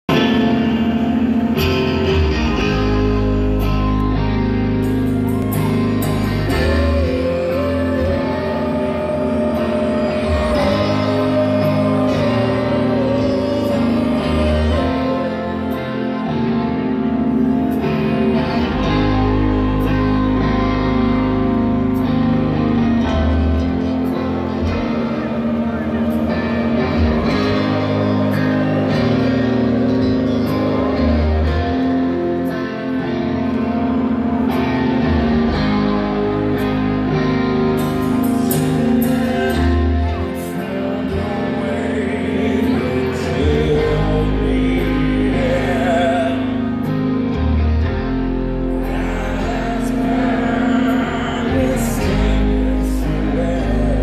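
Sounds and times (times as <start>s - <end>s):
live rock band: 0.0s - 54.0s
person singing: 0.1s - 54.0s.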